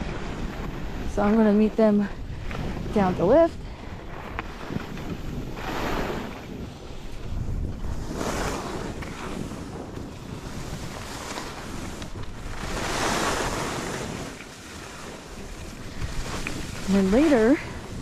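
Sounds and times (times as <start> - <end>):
skis carving over snow: 0.0 - 18.0
wind on microphone: 0.0 - 18.0.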